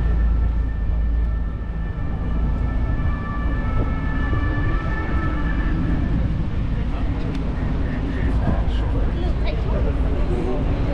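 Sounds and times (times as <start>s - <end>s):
high whine of overlapping tones: 0.0s - 10.9s
road rumble: 0.0s - 10.9s
wind on microphone: 0.0s - 10.9s.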